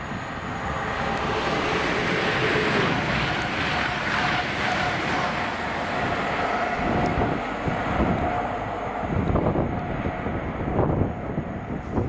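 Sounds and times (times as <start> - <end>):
train rushing past: 0.0 - 12.0.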